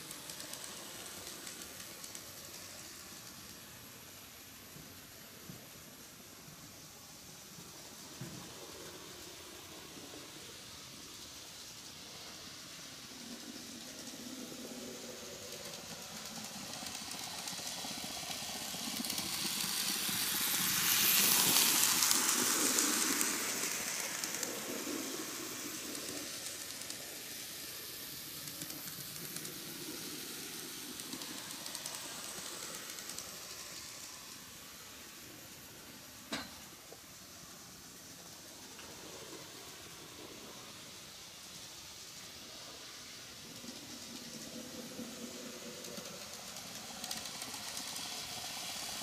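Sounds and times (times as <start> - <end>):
model train motor whirring: 0.0 - 49.0.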